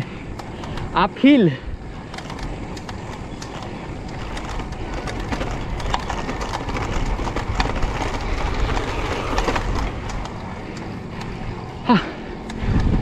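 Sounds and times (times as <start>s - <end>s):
bicycle clicks and ticks: 0.0s - 13.0s
wind and tyre rumble: 0.0s - 13.0s.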